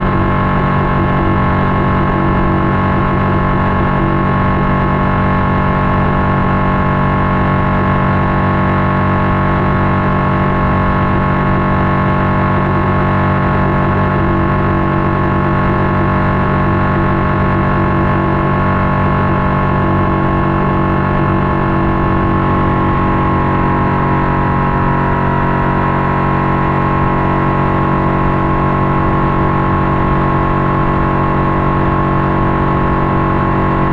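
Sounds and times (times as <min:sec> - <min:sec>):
boat motor running: 0:00.0 - 0:33.9.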